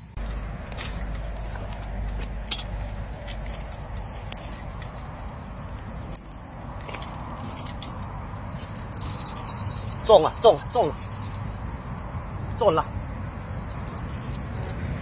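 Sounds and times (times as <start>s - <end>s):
crickets trilling: 0.0s - 15.0s
close rustling and handling: 0.2s - 14.6s.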